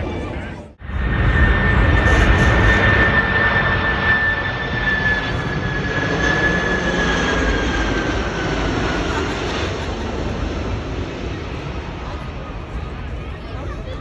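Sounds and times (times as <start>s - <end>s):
jet airliner passing: 0.0s - 14.0s.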